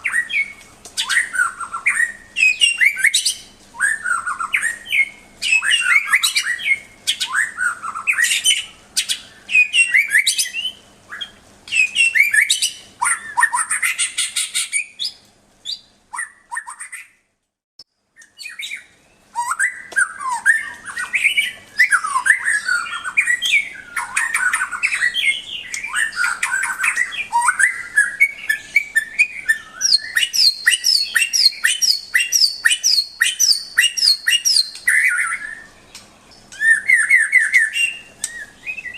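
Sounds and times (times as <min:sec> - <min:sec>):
bird singing whistled phrases: 0:00.0 - 0:17.2, 0:18.2 - 0:38.9.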